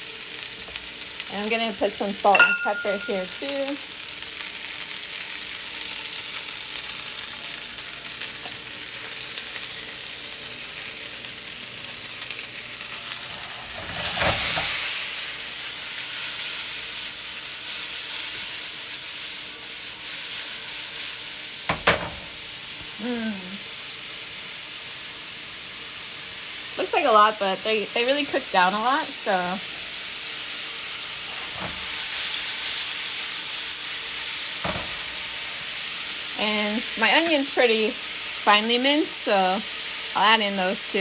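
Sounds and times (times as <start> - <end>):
mushrooms sizzling in a pan: 0.0 - 41.0.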